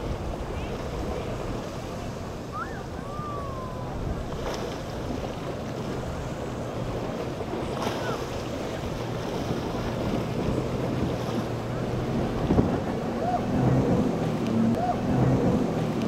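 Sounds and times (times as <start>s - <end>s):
outboard motor idling: 0.0s - 16.0s
water sloshing: 0.0s - 16.0s
wind buffeting microphone: 0.0s - 16.0s.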